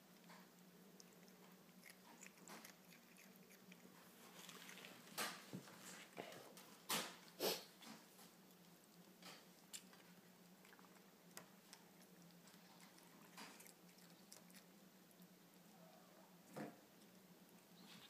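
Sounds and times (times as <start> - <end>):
cat chewing crunchy food: 0.1 - 15.4.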